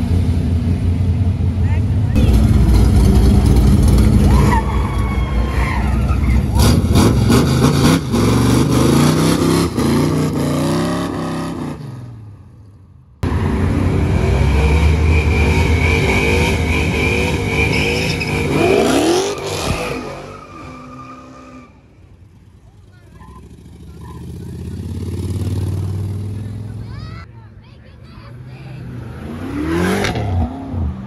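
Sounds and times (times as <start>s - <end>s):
cars running: 0.0s - 31.0s.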